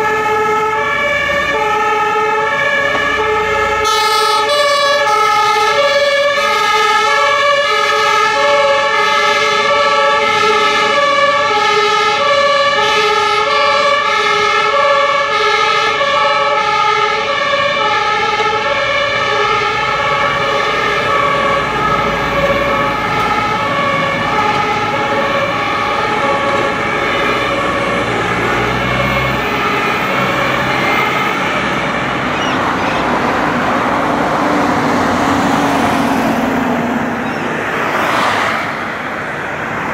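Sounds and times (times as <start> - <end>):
street traffic noise: 0.0 - 39.9
two-tone fire engine sirens: 0.0 - 39.9.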